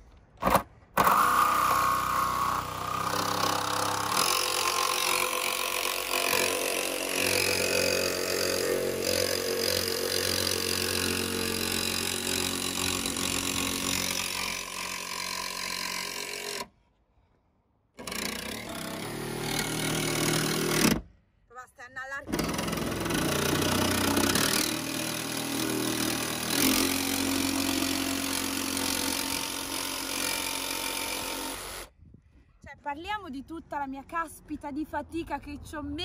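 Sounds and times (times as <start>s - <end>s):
jigsaw sawing sheet metal: 0.5s - 16.7s, 18.0s - 21.0s, 22.3s - 31.9s.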